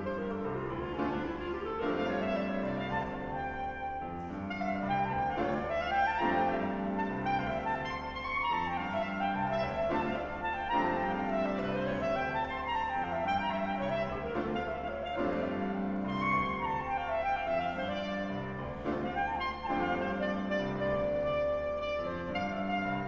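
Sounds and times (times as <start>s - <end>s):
clarinet melody: 0.0s - 23.0s
piano chords: 0.0s - 23.0s.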